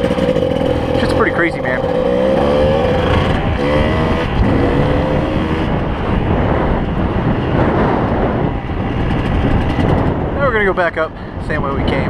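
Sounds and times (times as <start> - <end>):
dirt bike engine running: 0.0 - 10.9
rush of riding noise: 0.0 - 12.0.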